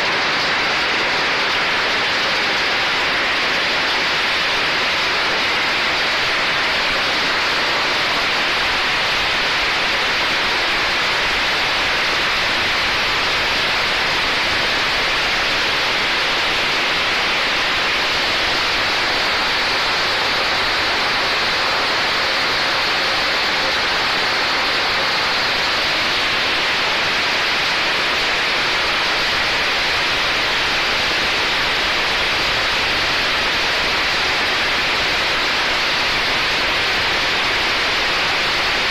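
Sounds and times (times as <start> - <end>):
machine spraying water and churning: 0.0 - 38.9.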